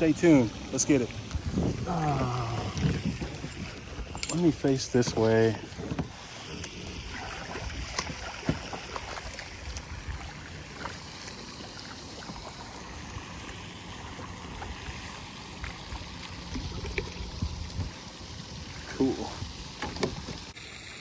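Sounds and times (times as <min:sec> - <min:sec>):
wind and water noise: 0:00.0 - 0:21.0.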